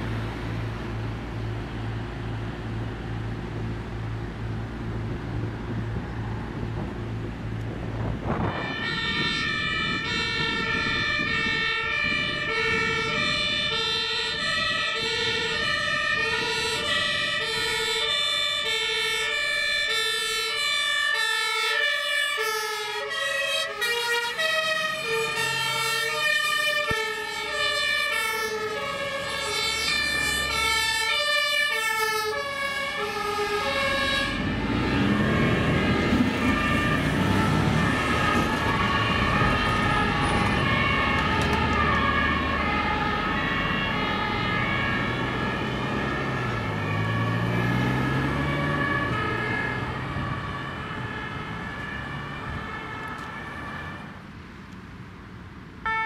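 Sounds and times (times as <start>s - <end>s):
two-tone sirens: 0.0s - 54.7s, 55.7s - 56.0s
fire engines driving past: 0.0s - 56.0s.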